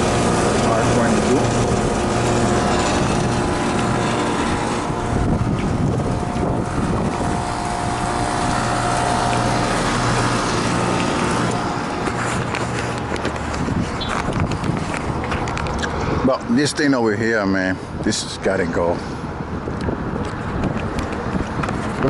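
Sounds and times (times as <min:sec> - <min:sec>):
air conditioner humming: 0:00.0 - 0:19.2.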